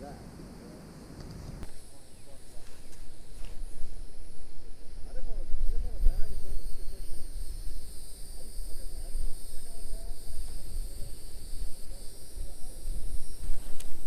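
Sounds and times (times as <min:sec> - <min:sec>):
steady high-pitched hiss: 0:00.0 - 0:14.0.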